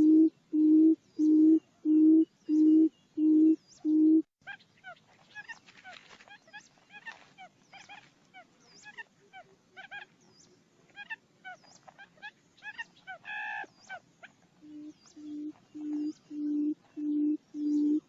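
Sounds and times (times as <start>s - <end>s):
quail chirping calls: 0.0s - 18.0s.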